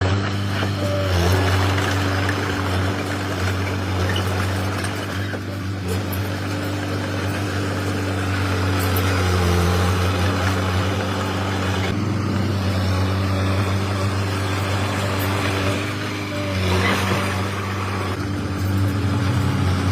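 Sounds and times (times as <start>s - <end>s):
bulldozer diesel engine running: 0.0s - 19.9s.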